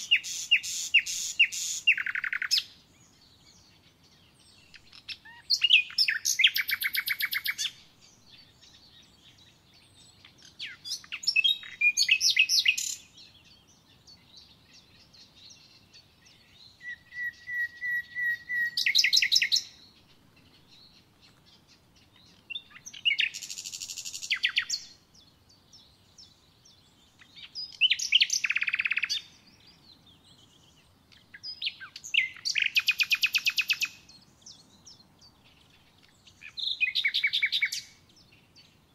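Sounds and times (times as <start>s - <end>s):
songbird singing trilled notes: 0.0s - 38.9s.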